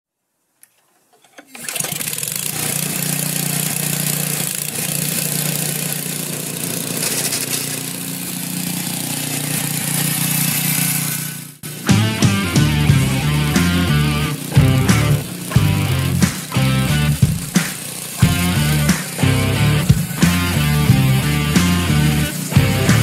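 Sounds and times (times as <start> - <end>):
snowblower engine running: 1.6 - 23.0.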